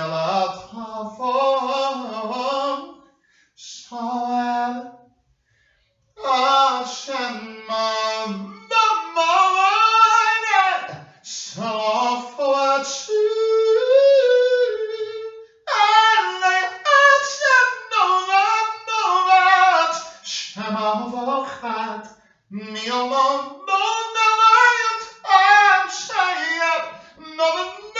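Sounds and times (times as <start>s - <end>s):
person singing solo: 0.0s - 2.8s, 6.2s - 27.9s.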